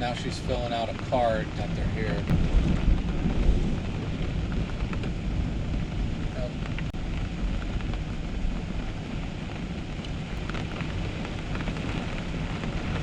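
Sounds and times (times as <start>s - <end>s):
rain falling: 0.0s - 13.0s
raindrops ticking: 0.0s - 13.0s
storm wind on microphone: 0.0s - 13.0s.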